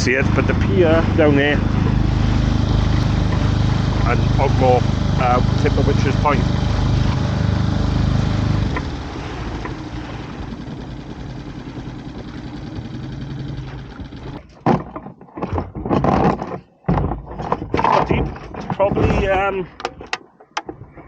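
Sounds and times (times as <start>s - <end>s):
sharp knocks and clatter: 0.0s - 4.1s, 6.5s - 11.0s, 11.6s - 21.0s
outboard motor running: 0.0s - 20.0s.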